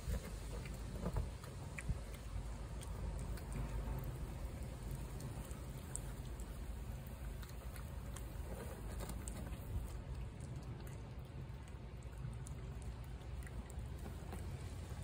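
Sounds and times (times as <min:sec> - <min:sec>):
cat chewing and licking: 0:00.0 - 0:15.0
low steady rumble: 0:00.0 - 0:15.0.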